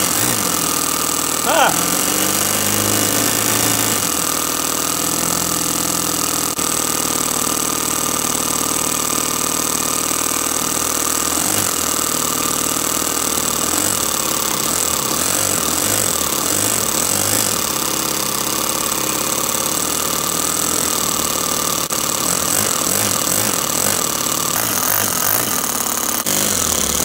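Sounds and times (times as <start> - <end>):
model engine running: 0.0 - 27.0.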